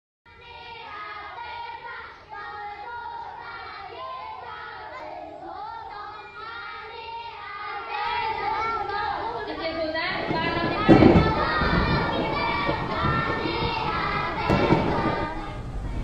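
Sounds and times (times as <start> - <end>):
low background hiss: 0.3 - 16.0.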